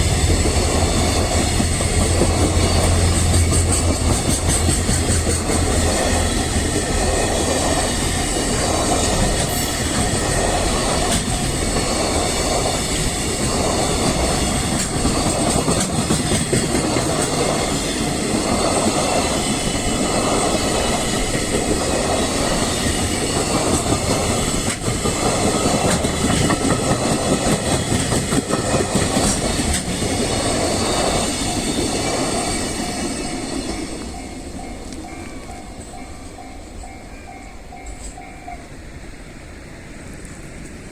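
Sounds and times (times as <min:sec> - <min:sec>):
train wheels clicking over rail joints: 0:00.0 - 0:38.5.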